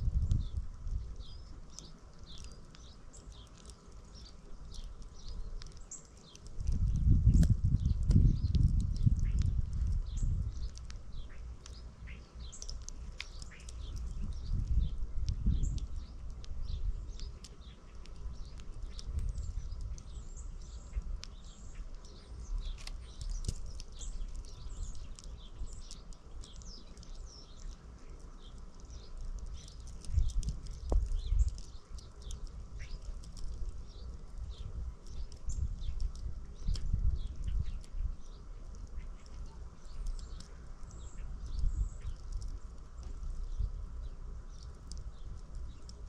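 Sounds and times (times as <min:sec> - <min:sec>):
songbirds chirping: 0:00.0 - 0:46.0
wind rumbling on microphone: 0:00.0 - 0:46.0.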